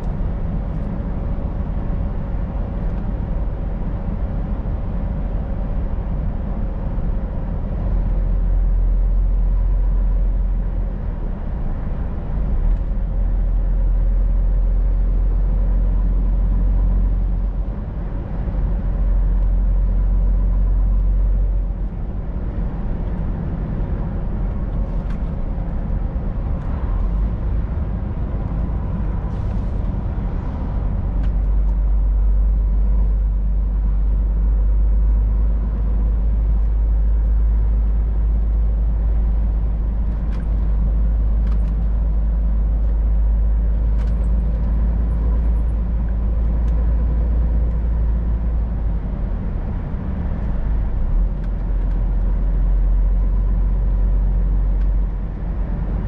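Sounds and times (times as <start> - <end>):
road noise: 0.0 - 56.0
truck diesel engine drone: 0.0 - 56.0.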